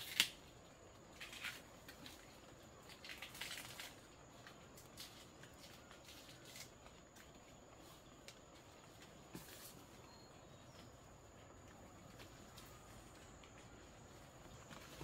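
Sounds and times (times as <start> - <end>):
rustling leaves and brush: 0.0 - 15.0.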